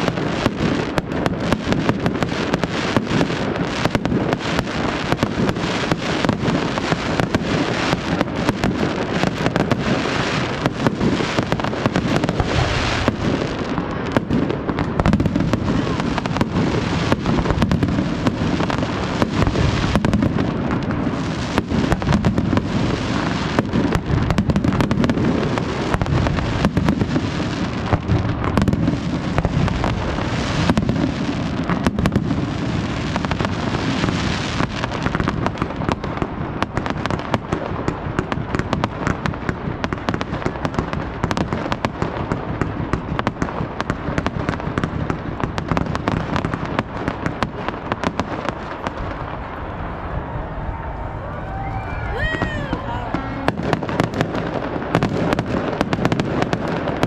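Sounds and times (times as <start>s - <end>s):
fireworks bangs and crackle: 0.0s - 57.0s.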